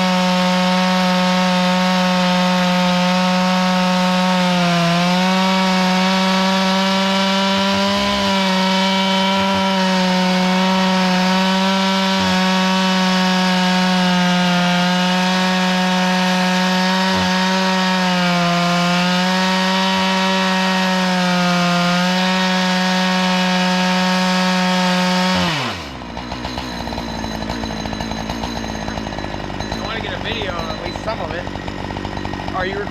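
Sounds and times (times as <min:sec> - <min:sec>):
chainsaw milling wood: 0:00.0 - 0:32.9.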